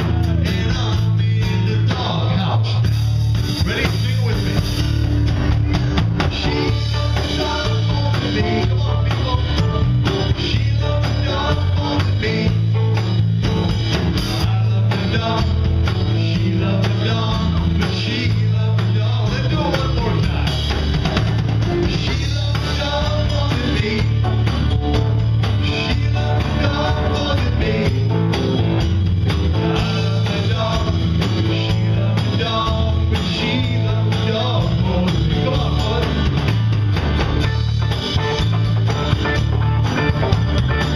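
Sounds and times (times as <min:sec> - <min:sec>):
man singing lead: 0:00.0 - 0:04.9, 0:06.2 - 0:28.8, 0:29.5 - 0:36.6, 0:38.2 - 0:40.3
electric bass: 0:00.0 - 0:40.9.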